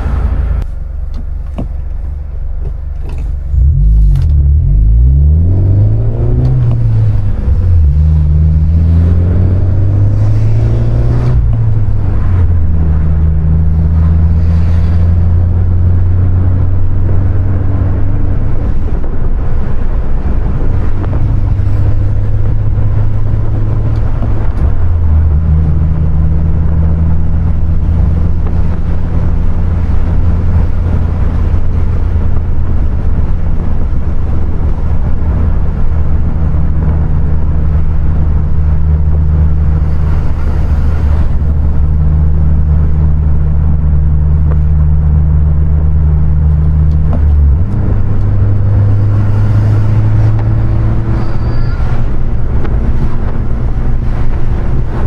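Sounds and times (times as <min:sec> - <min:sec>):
car engine revving through gears: 0:02.6 - 0:55.0.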